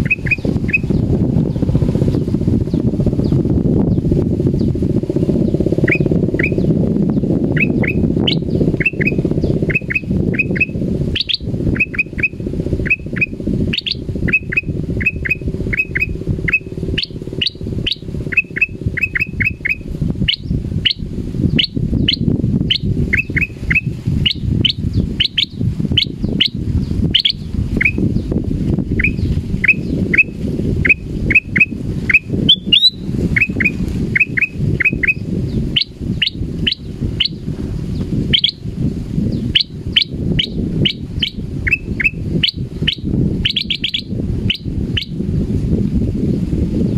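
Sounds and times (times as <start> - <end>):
bird chirping: 0.0 - 4.0, 4.6 - 38.6, 39.3 - 45.2
steady low rumble: 0.0 - 46.9.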